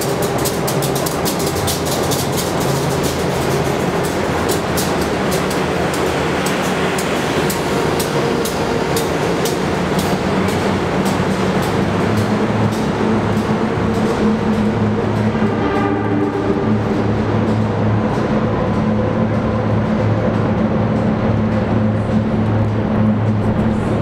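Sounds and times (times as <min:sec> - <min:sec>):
train wheels clicking over rail joints: 0:00.0 - 0:24.0.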